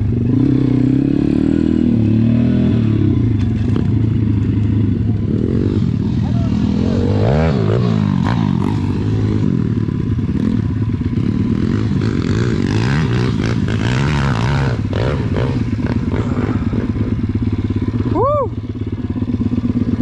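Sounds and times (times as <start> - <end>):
small motorbike engines revving: 0.0 - 20.0.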